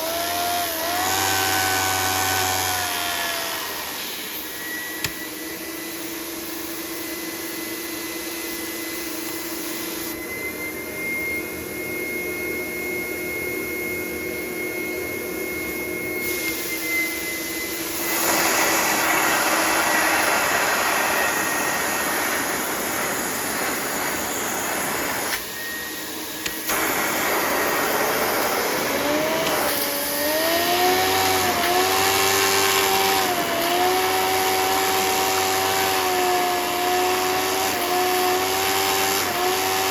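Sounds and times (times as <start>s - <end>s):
vacuum cleaner motor running: 0.0s - 39.9s
rising wavering whine: 1.4s - 39.9s.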